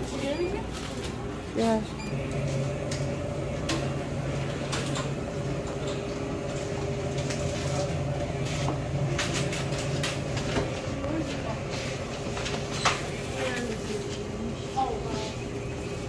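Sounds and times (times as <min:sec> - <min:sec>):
drink cooler humming: 0:00.0 - 0:16.0.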